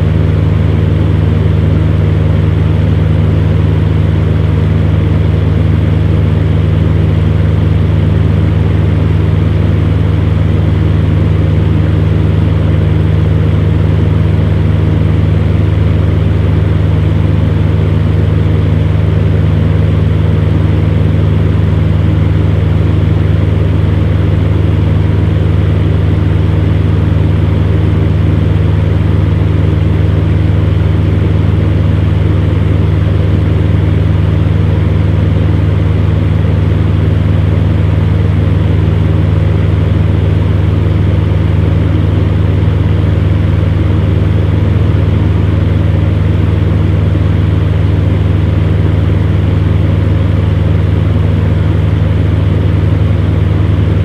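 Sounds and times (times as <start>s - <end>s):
electric fan motor hum: 0.0s - 54.0s.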